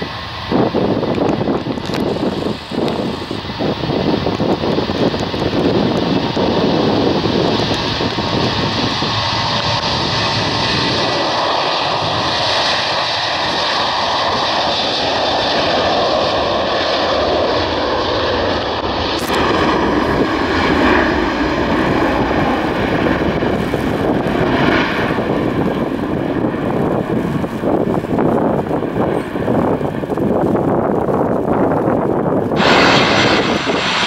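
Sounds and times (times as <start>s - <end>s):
jet engines at take-off power: 0.0s - 34.0s.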